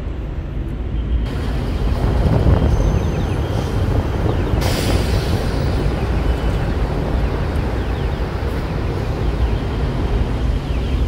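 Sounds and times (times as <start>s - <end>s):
city traffic rumble: 0.0s - 11.0s
wind buffeting microphone: 1.3s - 11.0s.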